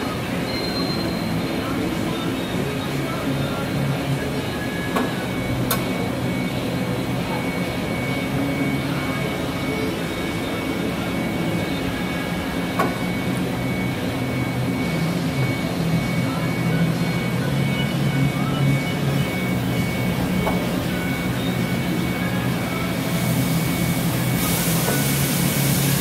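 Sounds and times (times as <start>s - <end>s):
machine humming with faint whine: 0.0s - 26.0s.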